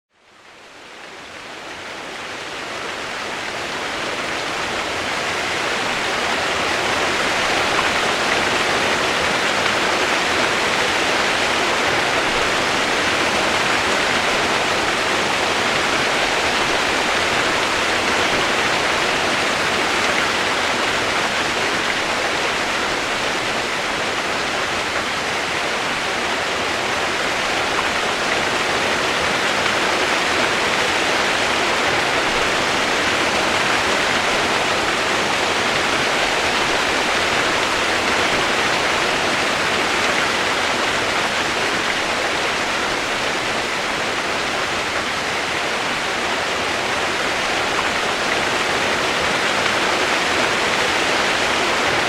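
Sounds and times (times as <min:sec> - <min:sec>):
rushing water: 0:00.2 - 0:52.0.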